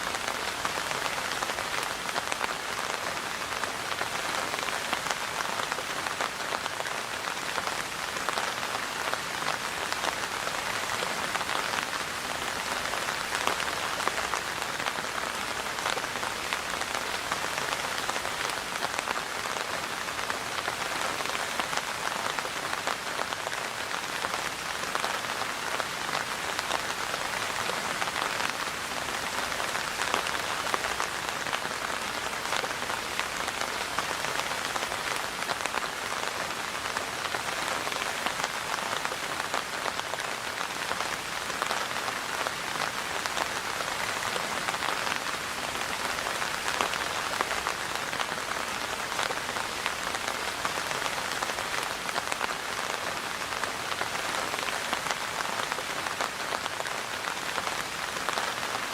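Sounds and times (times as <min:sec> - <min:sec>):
rain pattering on a surface: 0:00.0 - 0:58.9.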